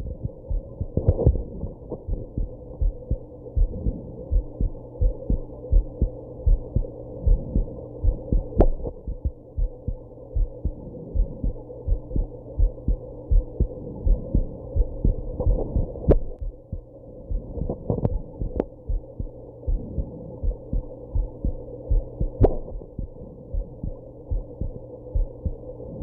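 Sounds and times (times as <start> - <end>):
heartbeat thumps: 0.0 - 25.7.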